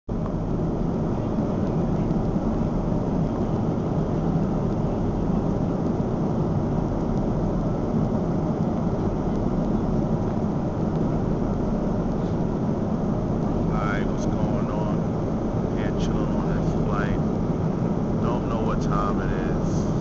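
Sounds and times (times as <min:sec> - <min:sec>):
airliner cabin engine rumble: 0:00.1 - 0:20.0.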